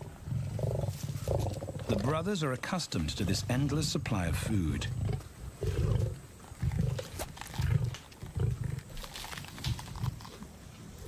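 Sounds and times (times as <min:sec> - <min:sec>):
lions growling: 0:00.0 - 0:02.3, 0:02.9 - 0:10.4.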